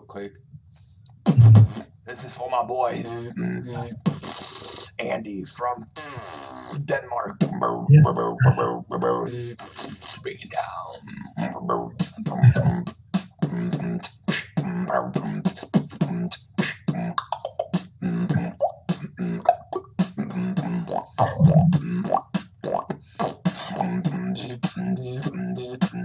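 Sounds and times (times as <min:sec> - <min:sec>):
beatboxing into microphone: 0:01.1 - 0:02.0, 0:02.7 - 0:26.0.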